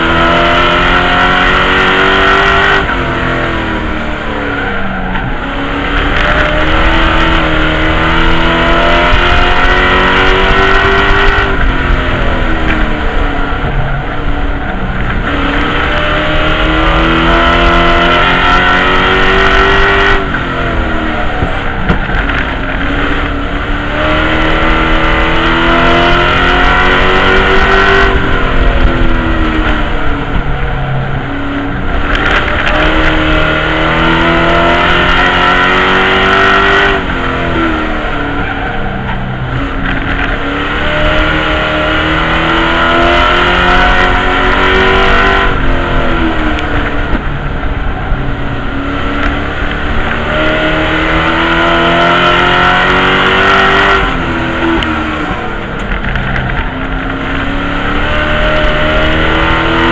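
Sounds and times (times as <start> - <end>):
race truck engine accelerating: 0.0 - 59.9.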